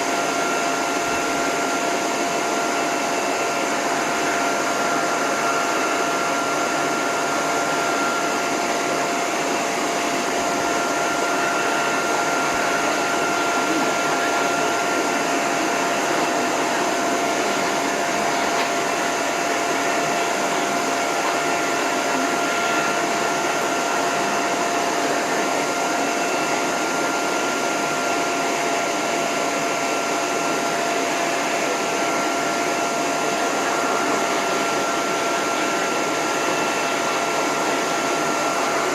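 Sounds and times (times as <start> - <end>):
hose dryer blowing air: 0.0 - 38.9.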